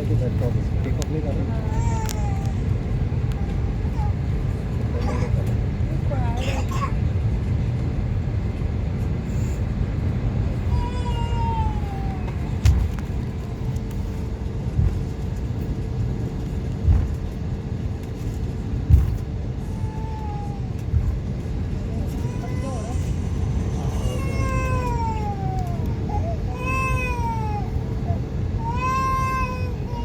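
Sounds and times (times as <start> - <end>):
aircraft cabin rumble: 0.0 - 30.0.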